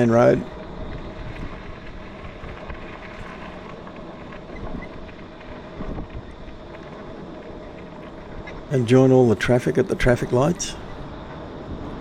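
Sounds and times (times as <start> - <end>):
road traffic noise: 0.0 - 12.0
wind rumble on microphone: 0.0 - 12.0.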